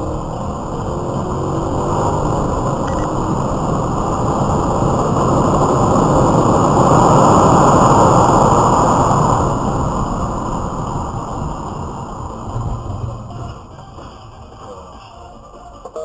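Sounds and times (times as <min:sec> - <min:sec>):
rushing road traffic: 0:00.0 - 0:16.0.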